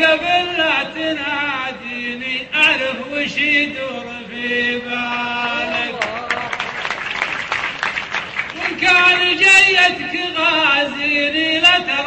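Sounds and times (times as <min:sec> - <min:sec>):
man singing with held notes: 0:00.0 - 0:06.4, 0:08.5 - 0:12.0.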